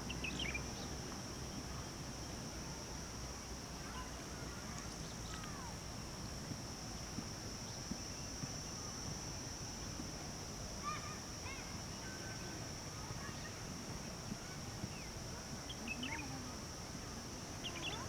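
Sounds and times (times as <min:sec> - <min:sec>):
high-pitched insect drone: 0:01.8 - 0:18.0.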